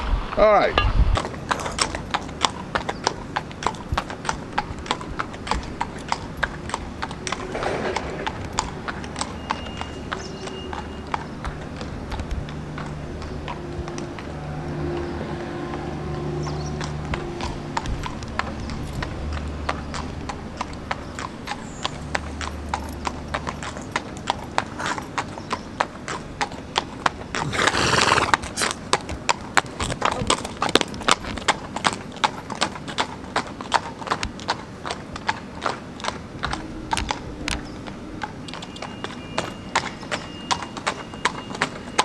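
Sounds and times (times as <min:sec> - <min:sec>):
hooves clip-clopping on tarmac: 0:00.0 - 0:42.0.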